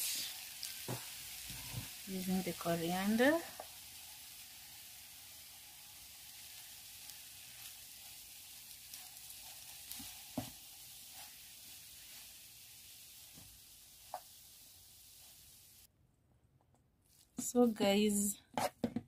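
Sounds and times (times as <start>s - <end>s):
chips sizzling in a frying pan: 0.0s - 15.9s.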